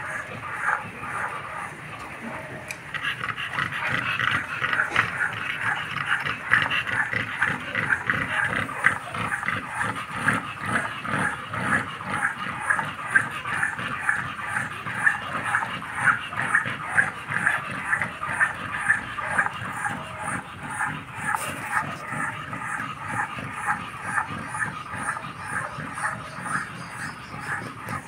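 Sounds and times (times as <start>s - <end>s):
dog panting rapidly: 0.0s - 28.0s.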